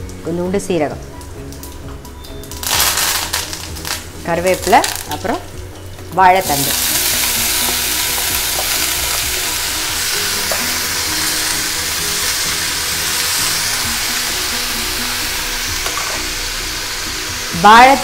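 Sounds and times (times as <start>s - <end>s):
vegetables sizzling in hot oil: 1.1s - 18.0s.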